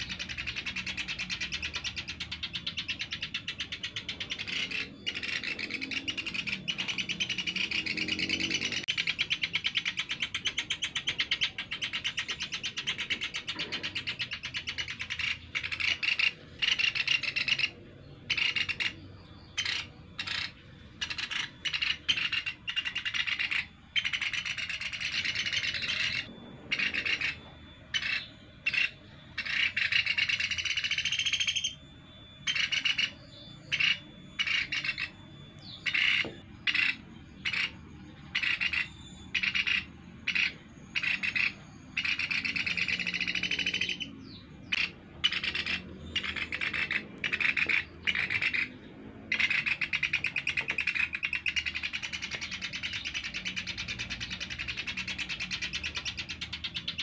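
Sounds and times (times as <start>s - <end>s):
woodpeckers calling in fast trills: 0.0s - 57.0s.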